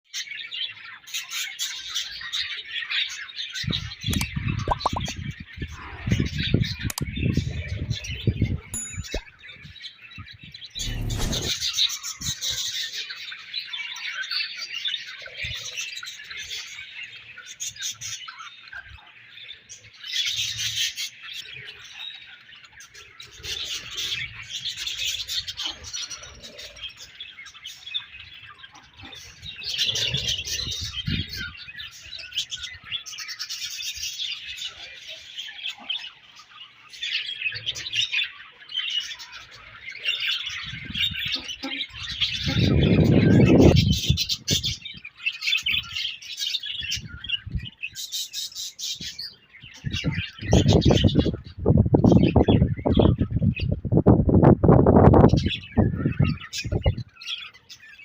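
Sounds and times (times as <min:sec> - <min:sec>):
budgerigars chattering and chirping: 0:00.2 - 0:08.7, 0:10.8 - 0:53.8, 0:55.2 - 0:58.0.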